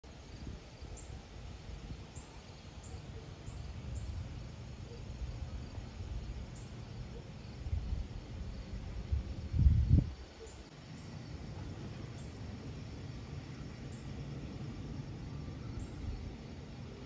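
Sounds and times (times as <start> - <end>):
jet airliner engines rumbling overhead: 0.2 - 17.0.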